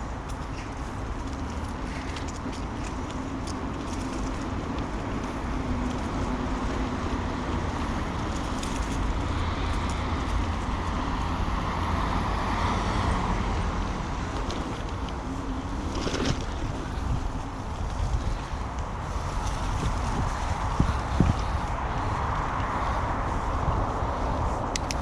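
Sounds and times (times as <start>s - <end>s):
wind and tyre noise: 0.0s - 25.0s
vehicle passing by: 3.9s - 24.8s.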